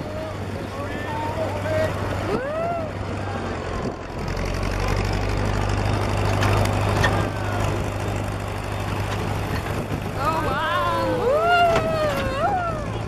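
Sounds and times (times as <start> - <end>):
tractor engine droning: 0.0 - 13.0
wheels rumbling on rough track: 0.0 - 13.0.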